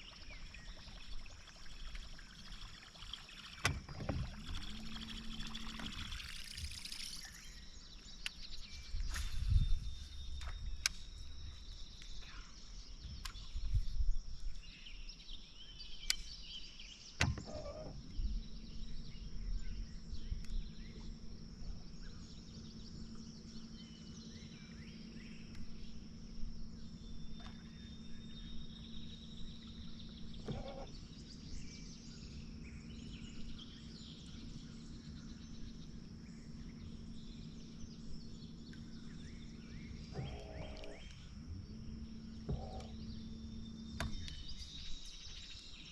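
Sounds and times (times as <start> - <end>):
low hum: 0.0 - 16.6, 17.2 - 45.9
bird chirps: 0.0 - 45.9.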